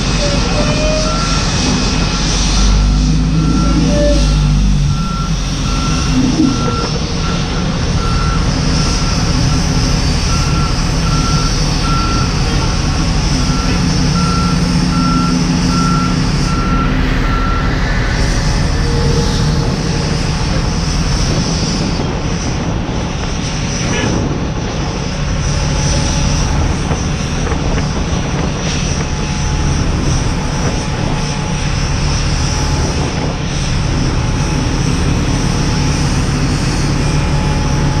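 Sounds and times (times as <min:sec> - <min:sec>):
jet engines idling: 0:00.0 - 0:38.0.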